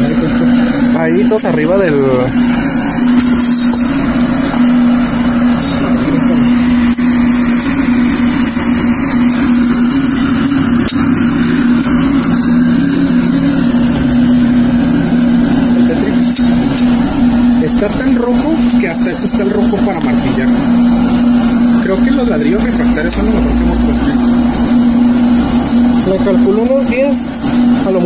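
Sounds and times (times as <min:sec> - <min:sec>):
electric blower humming: 0:00.0 - 0:28.0.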